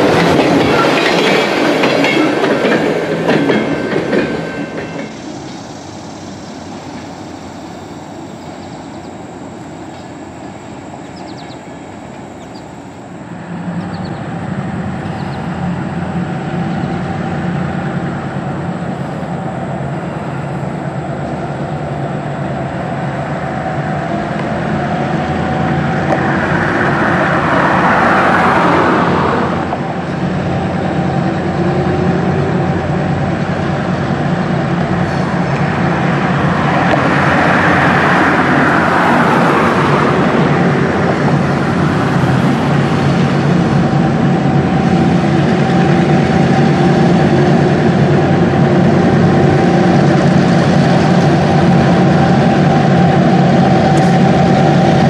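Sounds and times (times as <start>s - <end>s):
cars passing with tyre noise: 0.0s - 55.0s
diesel locomotive engine hum: 0.0s - 55.0s.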